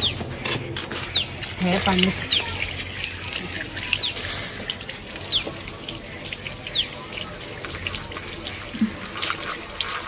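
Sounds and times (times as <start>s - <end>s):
tap water splashing into trough: 1.4s - 10.0s.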